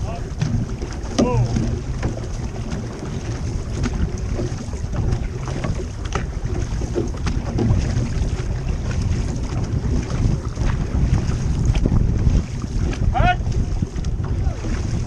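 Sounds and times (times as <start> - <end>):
paddle splashes: 0.0 - 15.0
water rushing past canoe: 0.0 - 15.0
wind buffeting microphone: 0.0 - 15.0.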